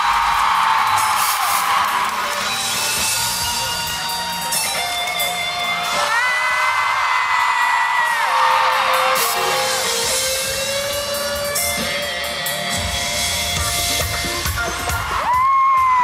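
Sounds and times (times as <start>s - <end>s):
crowd screaming: 0.0s - 12.0s, 14.5s - 16.0s
loud concert music: 0.0s - 16.0s.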